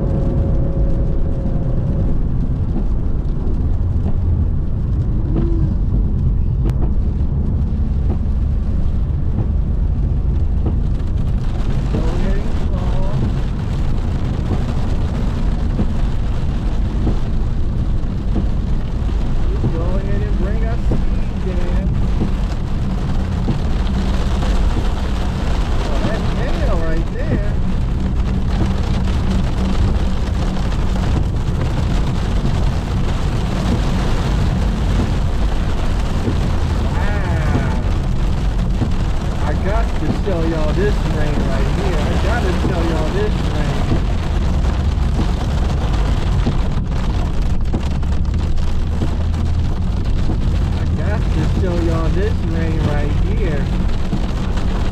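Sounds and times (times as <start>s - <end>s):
car driving on wet road: 0.0s - 54.9s.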